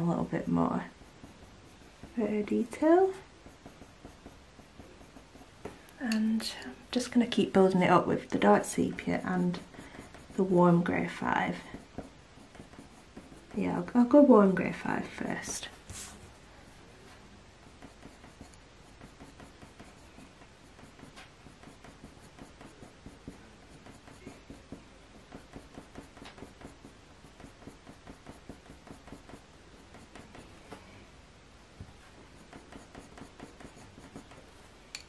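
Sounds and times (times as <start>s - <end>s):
coloured pencil scratching on paper: 0.0s - 5.8s, 6.4s - 30.8s, 32.0s - 34.8s.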